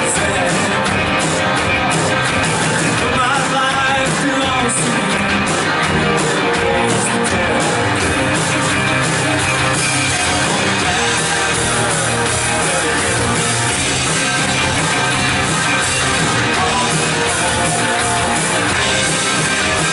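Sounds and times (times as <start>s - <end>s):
drums keeping steady beat: 0.0s - 19.9s
electric guitar: 0.0s - 19.9s
rock band playing: 0.0s - 19.9s.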